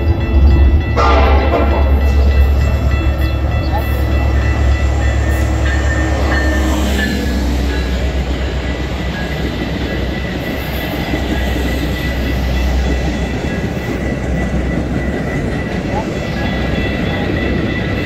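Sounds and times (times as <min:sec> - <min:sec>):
diesel locomotive engine: 0:00.0 - 0:18.0
train wheels clacking on rails: 0:00.0 - 0:18.0.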